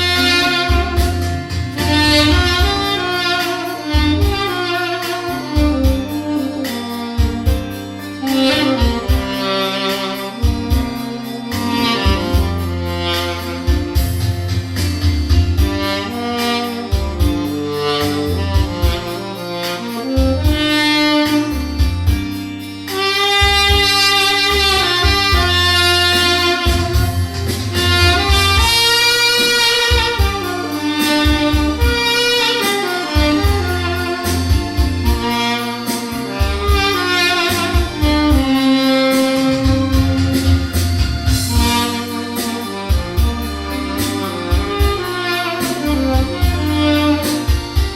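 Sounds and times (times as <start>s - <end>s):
pulsing bass line: 0.0s - 47.9s
tenor saxophone melody: 0.0s - 47.9s.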